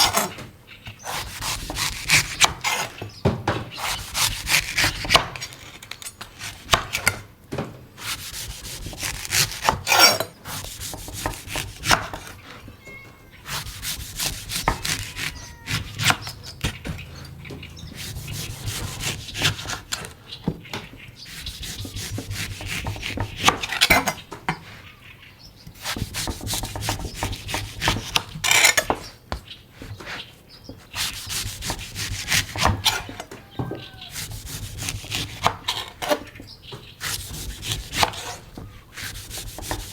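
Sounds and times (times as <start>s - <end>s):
knife chopping coconut husk: 1.0s - 7.2s, 8.0s - 12.4s, 13.5s - 20.2s, 21.3s - 24.2s, 25.8s - 29.0s, 29.8s - 36.3s, 36.9s - 39.9s.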